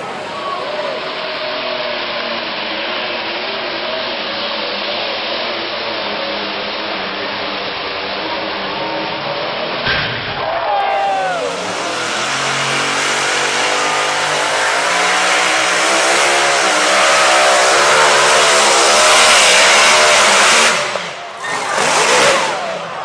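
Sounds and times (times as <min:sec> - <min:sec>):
tractor engine under heavy load: 0:00.0 - 0:23.0.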